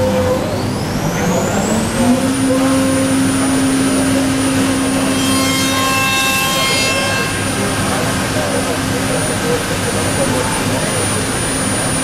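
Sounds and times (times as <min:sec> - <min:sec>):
steady tones: 0:00.0 - 0:11.5
router spindle whine: 0:00.0 - 0:12.0.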